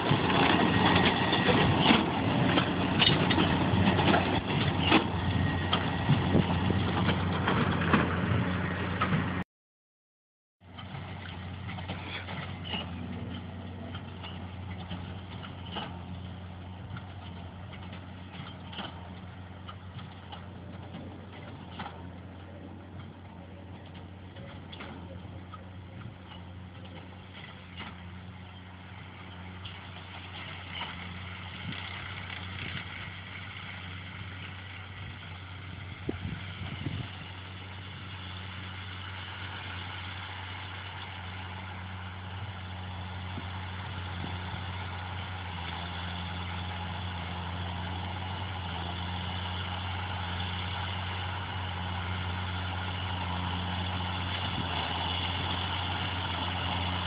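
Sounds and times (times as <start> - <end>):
baler machinery clatter: 0.0 - 9.4, 10.7 - 57.0
tractor engine hum: 0.0 - 9.4, 10.6 - 57.0.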